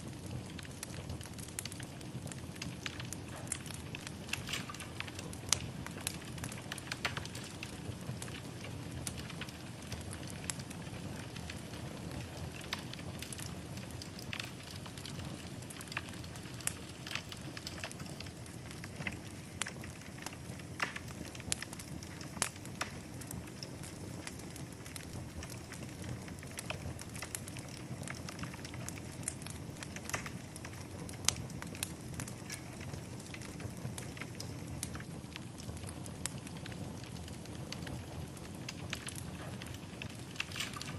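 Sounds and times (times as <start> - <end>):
fire crackling and popping: 0.0 - 40.9
wood fire burning: 0.0 - 40.9.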